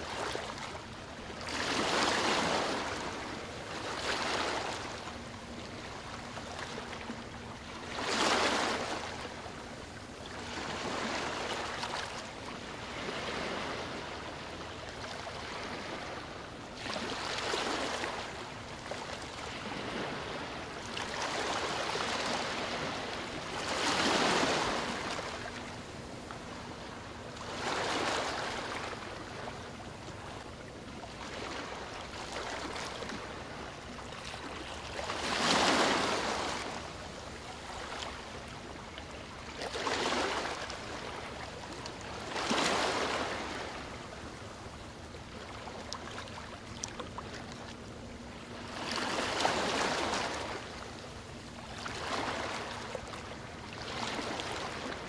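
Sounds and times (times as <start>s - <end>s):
small waves washing onto shore: 0.0s - 44.8s.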